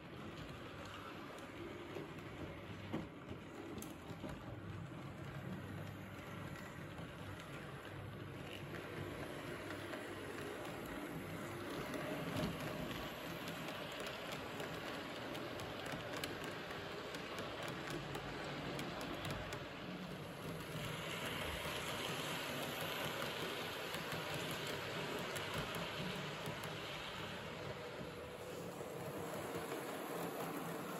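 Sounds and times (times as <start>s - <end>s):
model train running on track: 0.0s - 30.9s.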